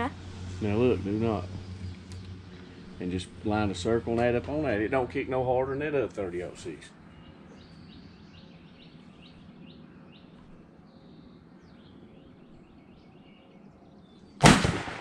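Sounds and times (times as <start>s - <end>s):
low outdoor noise: 0.0s - 15.0s
songbirds chirping: 0.0s - 15.0s.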